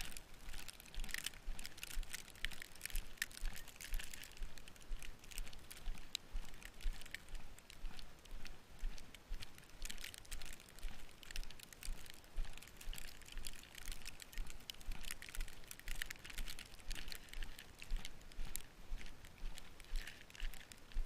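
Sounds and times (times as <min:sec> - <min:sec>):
footsteps crunching through snow: 0:00.0 - 0:21.0.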